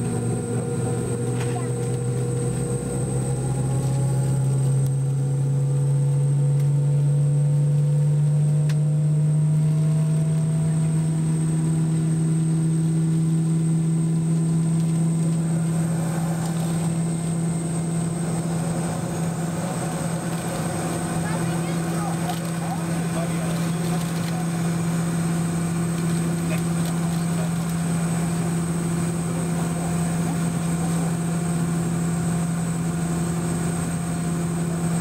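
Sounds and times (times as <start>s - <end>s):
jet engine idling: 0.0s - 35.0s.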